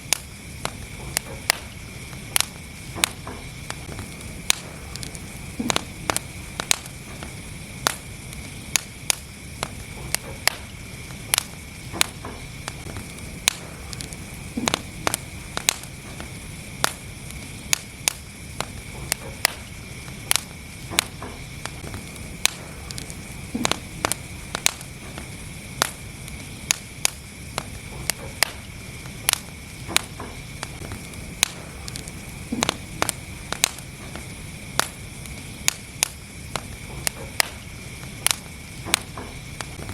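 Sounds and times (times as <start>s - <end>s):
fire crackling and popping: 0.0s - 39.9s
fire rumbling and hissing: 0.0s - 39.9s.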